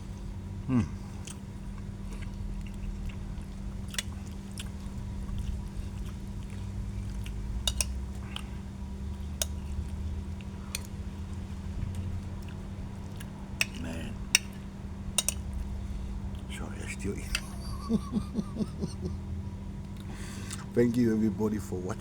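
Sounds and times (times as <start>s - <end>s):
person chewing food: 0.0s - 19.1s, 19.8s - 21.0s
steady low hum: 0.0s - 22.0s.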